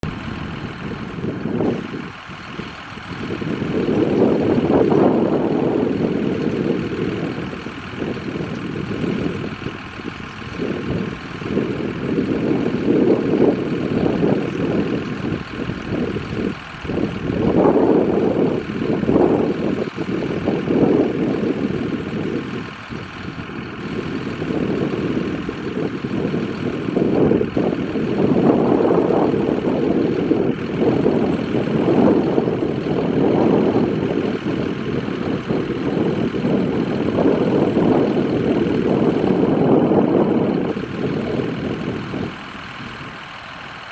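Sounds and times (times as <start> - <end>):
tractor engine and baler machinery: 0.0 - 43.9.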